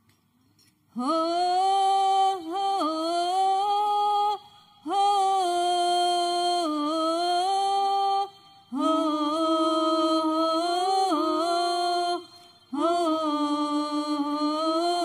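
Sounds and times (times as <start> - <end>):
women singing: 1.0 - 15.0.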